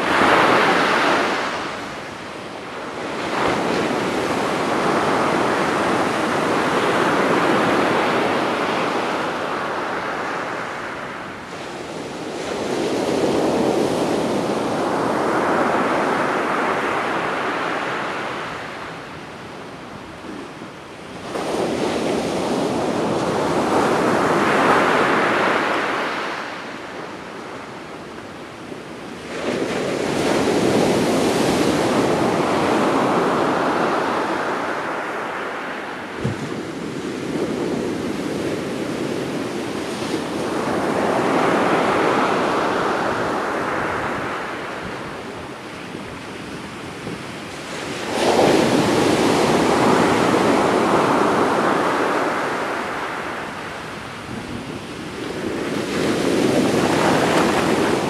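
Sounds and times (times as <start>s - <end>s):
waves crashing on beach: 0.0s - 58.0s.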